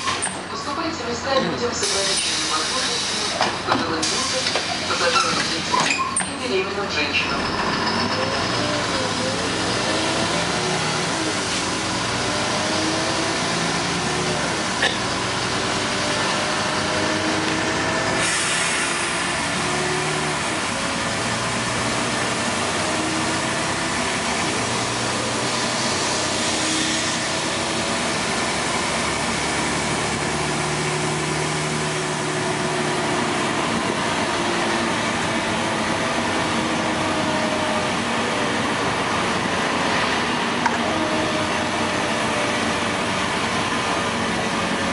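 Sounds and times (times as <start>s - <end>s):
bus diesel engine: 0.0s - 44.9s
road noise: 0.0s - 44.9s.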